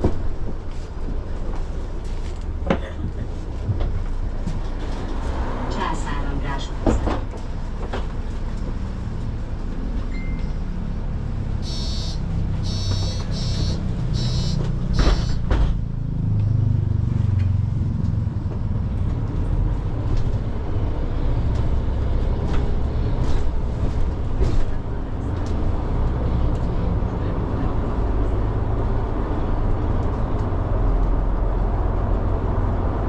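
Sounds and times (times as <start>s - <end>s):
vehicle rumbling: 0.0s - 33.0s.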